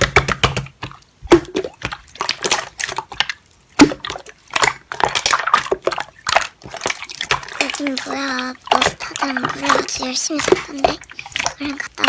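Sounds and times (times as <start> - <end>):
slime squishing with wet pops: 0.0 - 12.0.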